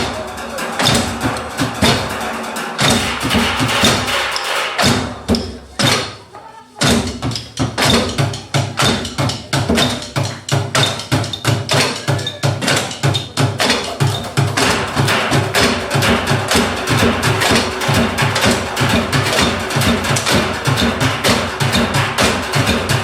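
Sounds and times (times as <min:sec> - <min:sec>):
low drum beat: 0:00.0 - 0:23.0
wood block strikes: 0:00.0 - 0:23.0.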